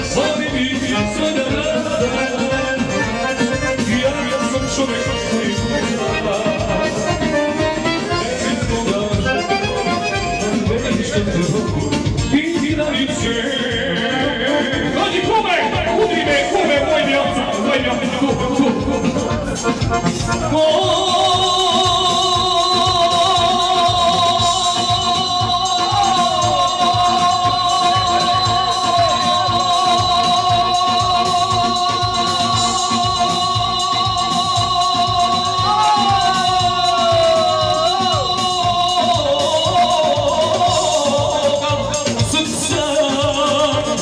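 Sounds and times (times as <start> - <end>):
keyboard backing with beat: 0.0 - 44.0
man singing with vibrato: 0.0 - 44.0.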